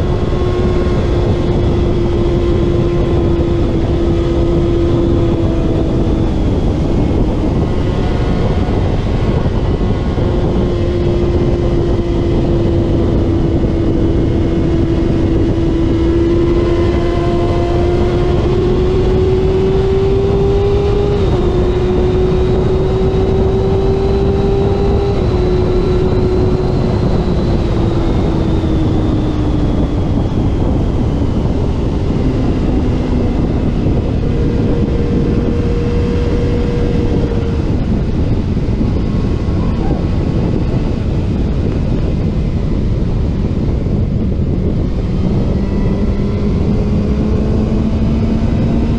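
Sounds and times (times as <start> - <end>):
racing motorcycle engine revving: 0.0 - 48.9
wind rush: 0.0 - 48.9.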